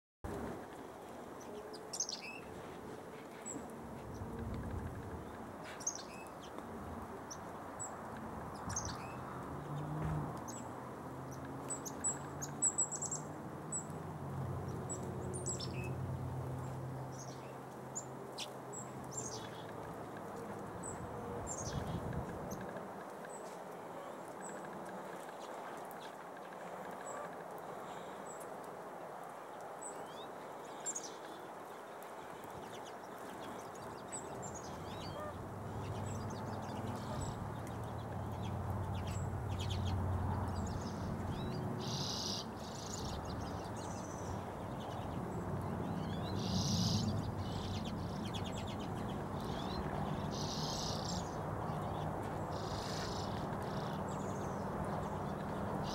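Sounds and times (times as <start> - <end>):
small birds chirping: 1.4 - 55.9.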